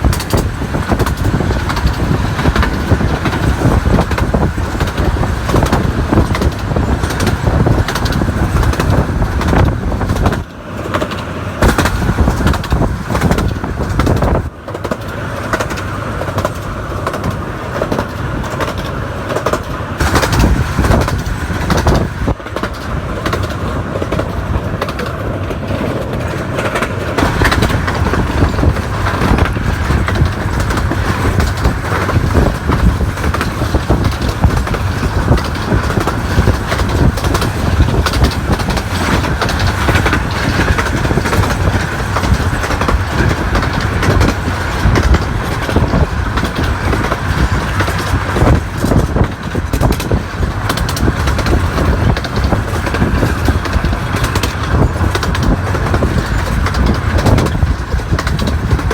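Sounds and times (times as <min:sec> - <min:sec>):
miniature train rumbling: 0:00.0 - 0:58.9
wheels clattering on rail: 0:00.0 - 0:58.9.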